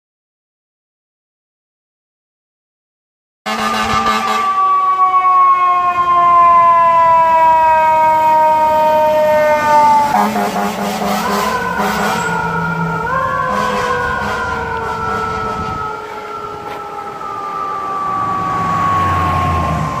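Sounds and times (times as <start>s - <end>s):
fire engine siren wailing: 3.5s - 20.0s.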